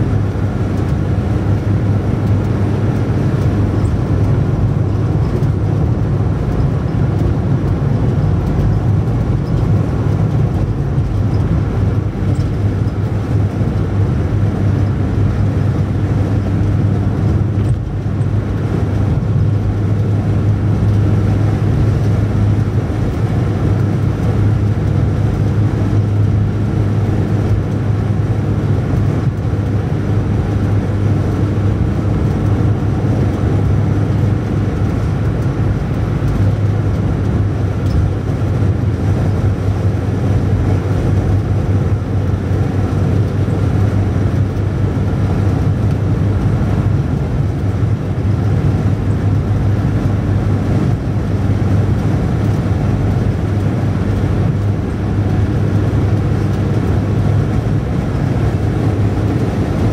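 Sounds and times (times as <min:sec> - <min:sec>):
car engine drone: 0:00.0 - 0:59.9
tyre and road noise: 0:00.0 - 0:59.9.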